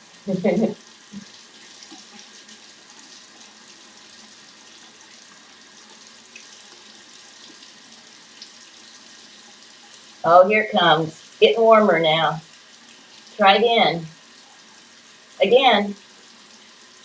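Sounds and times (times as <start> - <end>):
faucet water splashing into basin: 0.0 - 17.0.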